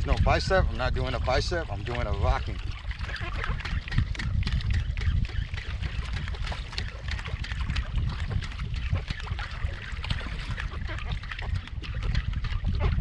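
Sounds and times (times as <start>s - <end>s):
small clicks and splashes: 0.0s - 13.0s
water lapping against kayak hull: 0.0s - 13.0s
wind rumbling on microphone: 0.0s - 13.0s.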